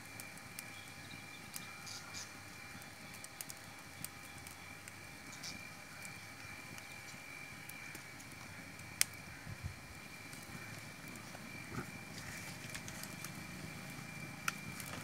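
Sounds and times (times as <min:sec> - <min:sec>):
boiling water hissing: 0:00.0 - 0:15.0
wood fire crackling: 0:00.0 - 0:15.0.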